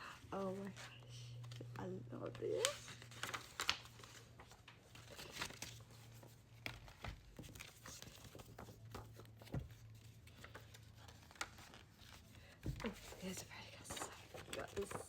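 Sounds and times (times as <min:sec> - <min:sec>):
paper crinkling and rustling: 0:00.4 - 0:15.0.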